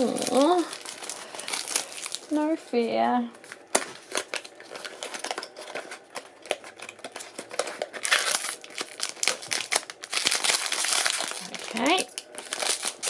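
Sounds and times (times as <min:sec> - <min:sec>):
foil bag crinkling: 0:00.0 - 0:13.0.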